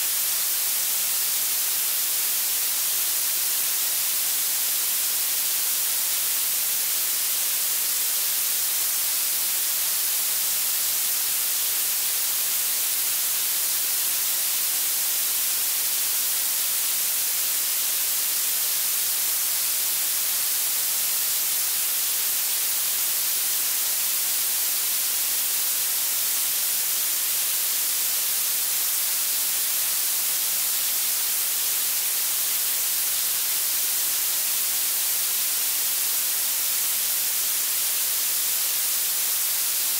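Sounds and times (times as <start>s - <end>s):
bright synthetic hiss: 0.0s - 39.9s.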